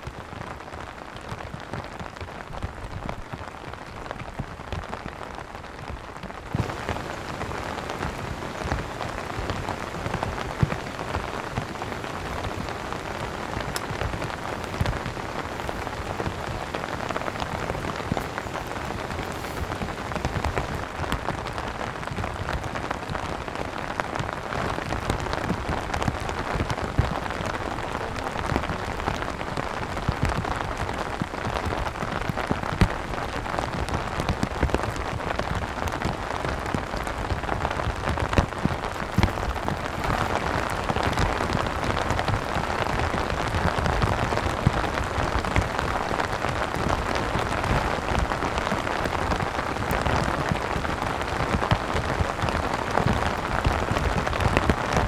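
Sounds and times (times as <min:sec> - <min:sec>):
rain with ticking drops: 0:00.0 - 0:55.0.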